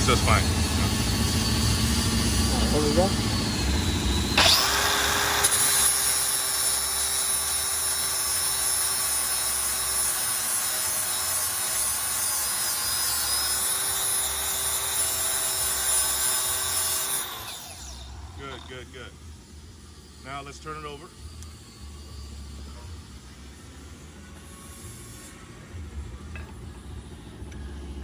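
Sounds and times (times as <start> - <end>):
angle grinder grinding steel: 0.0 - 26.6.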